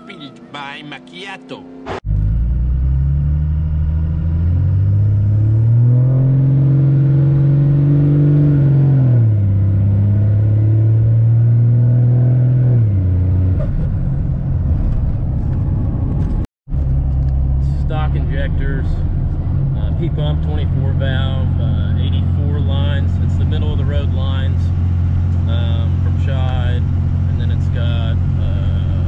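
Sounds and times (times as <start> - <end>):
diesel pickup engine accelerating: 0.0 - 29.0.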